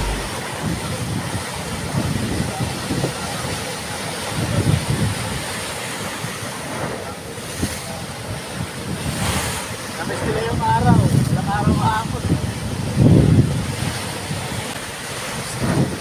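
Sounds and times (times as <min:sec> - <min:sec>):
sea surf washing ashore: 0:00.0 - 0:16.0.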